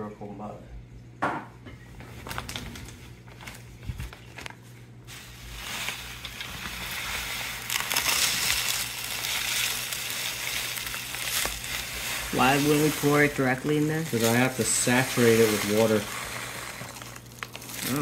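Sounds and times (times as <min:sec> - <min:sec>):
plastic bag rustling: 0:02.0 - 0:18.0.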